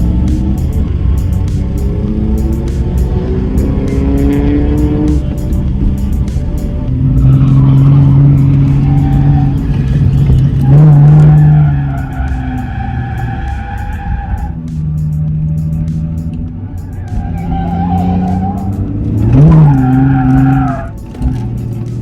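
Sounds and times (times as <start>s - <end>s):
background music with beat: 0.0s - 22.0s
car engine at high revs: 0.0s - 22.0s
tyres skidding and squealing: 0.0s - 22.0s.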